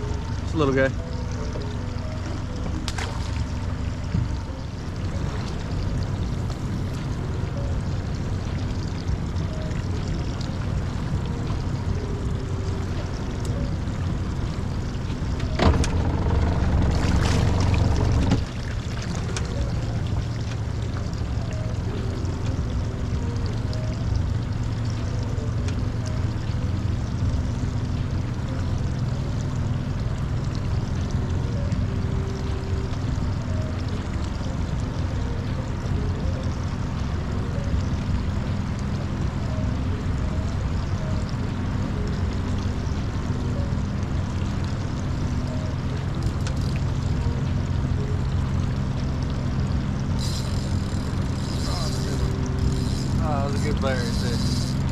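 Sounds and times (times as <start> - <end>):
boat motor humming: 0.0 - 54.9.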